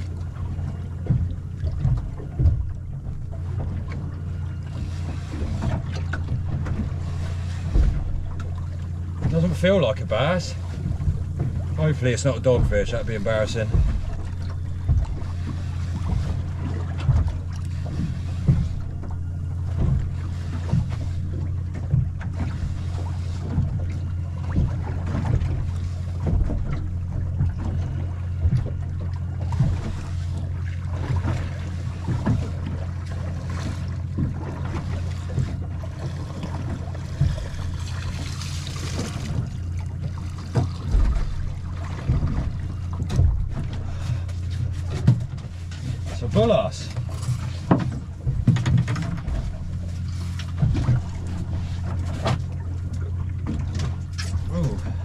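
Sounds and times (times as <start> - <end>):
wind rumble on microphone: 0.0 - 32.8, 33.6 - 55.0
water slapping against hull: 0.0 - 55.0.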